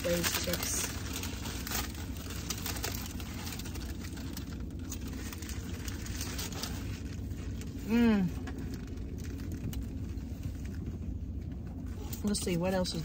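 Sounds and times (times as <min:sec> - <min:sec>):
low hum inside car: 0:00.0 - 0:13.0
paper wrapping crinkling: 0:00.0 - 0:13.0.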